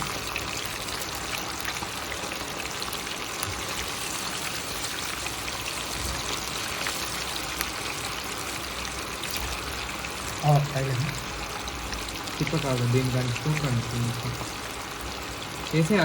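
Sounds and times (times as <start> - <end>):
chicken sizzling in hot oil: 0.0 - 16.0
small oil crackles: 0.0 - 16.0.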